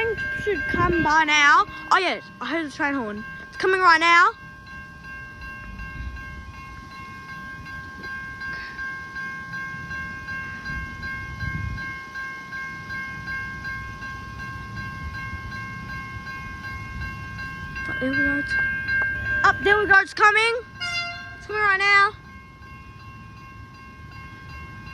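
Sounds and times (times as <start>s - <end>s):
diesel train rumbling: 0.0s - 24.9s
level-crossing bell ringing: 0.0s - 24.9s.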